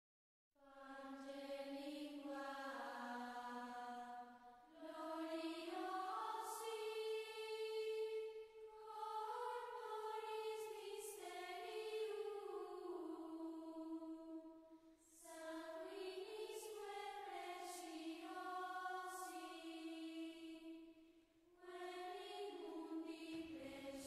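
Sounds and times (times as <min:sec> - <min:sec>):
voices singing slow chant: 0:00.6 - 0:24.0.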